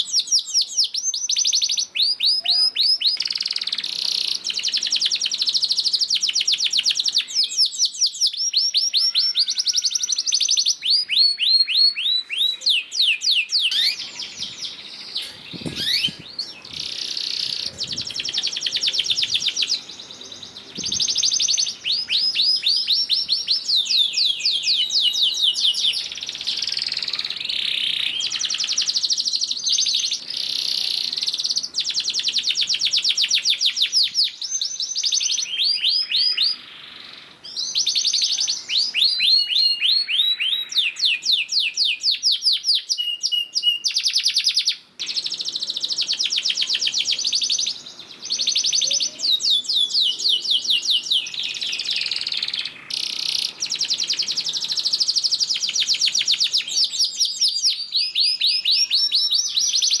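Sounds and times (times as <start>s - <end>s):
canary singing trills: 0.0s - 60.0s.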